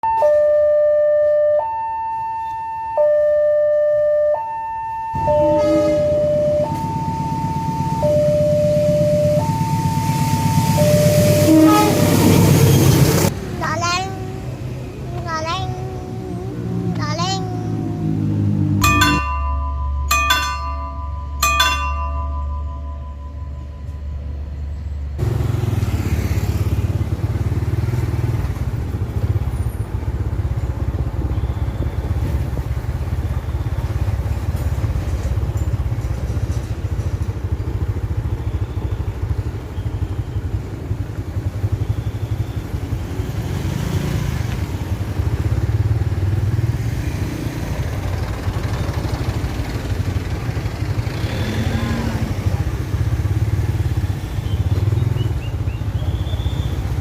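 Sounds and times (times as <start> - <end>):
motorcycle engines passing: 5.2 - 24.5, 25.1 - 57.0.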